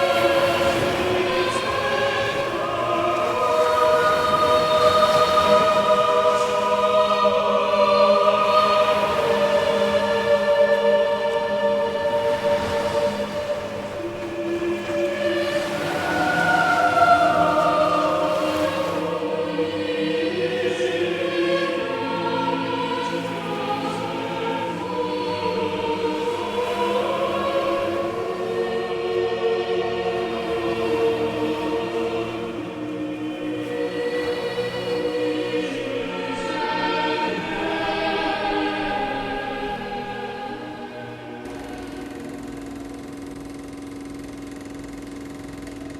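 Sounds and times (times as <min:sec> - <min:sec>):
choir singing sustained notes: 0:00.0 - 0:45.9
steady mechanical hum: 0:00.0 - 0:45.9.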